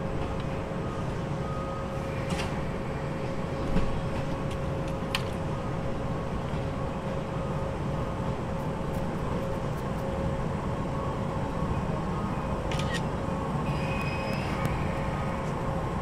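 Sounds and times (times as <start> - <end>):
train rolling in: 0.0 - 9.4, 10.3 - 16.0
electric train humming: 0.0 - 16.0.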